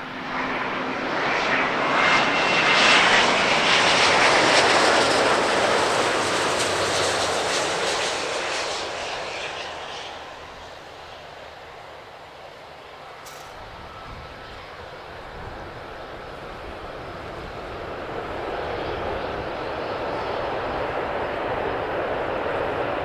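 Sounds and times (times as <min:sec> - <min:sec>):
faint jet whine: 0:00.0 - 0:23.0
jet airliner passing low: 0:00.0 - 0:23.0.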